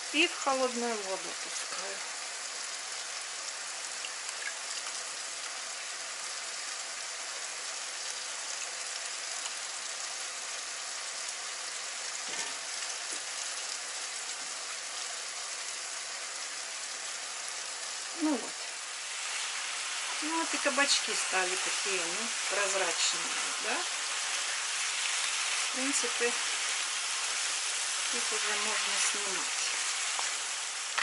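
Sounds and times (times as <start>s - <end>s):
vegetables frying in a pan: 0.0s - 31.0s.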